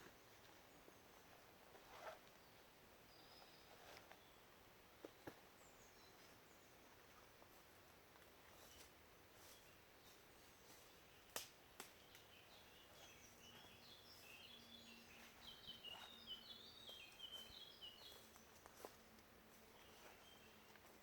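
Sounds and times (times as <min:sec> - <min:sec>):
faint bird chirping: 0:00.0 - 0:07.4, 0:08.4 - 0:21.0.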